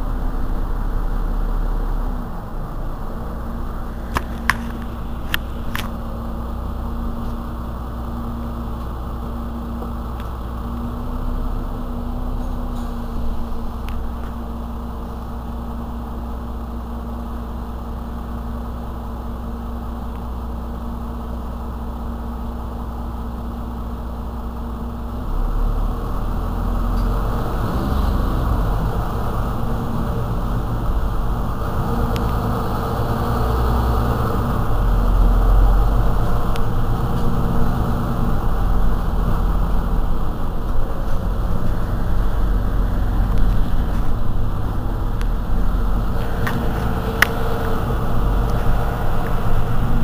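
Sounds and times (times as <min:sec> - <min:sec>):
bus engine idling: 0:00.0 - 0:50.0.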